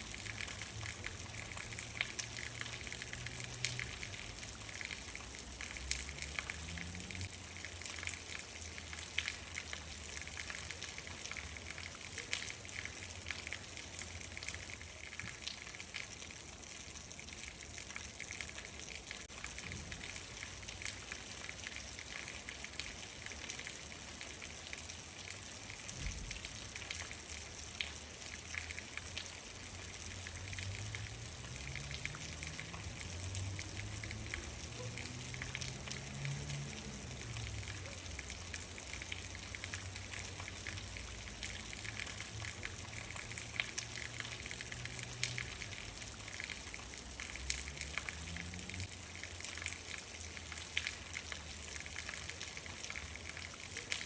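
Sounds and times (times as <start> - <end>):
steady rain with ticking drops: 0.0 - 54.0.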